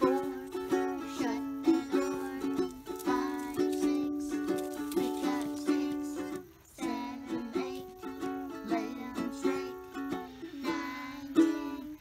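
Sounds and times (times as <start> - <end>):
plucked string instrument tune: 0.0 - 12.0.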